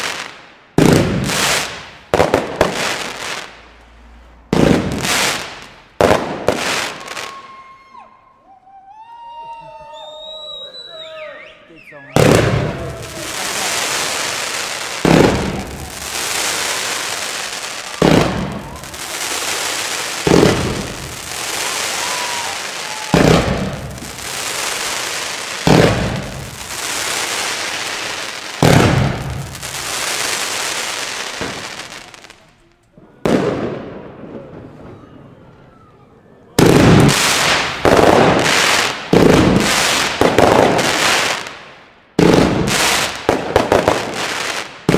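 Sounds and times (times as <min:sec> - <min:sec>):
fireworks shots: 0:00.0 - 0:07.7, 0:12.0 - 0:35.5, 0:36.5 - 0:44.9.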